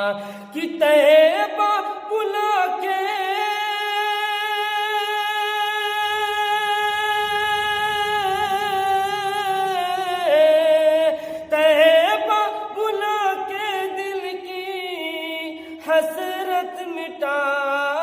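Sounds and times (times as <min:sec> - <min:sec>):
person singing unaccompanied: 0:00.0 - 0:18.0.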